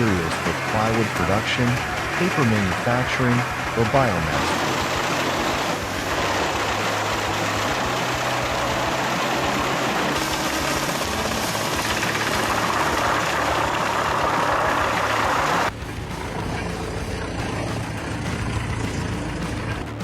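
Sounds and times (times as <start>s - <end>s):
wood chipper shredding: 0.0s - 20.0s.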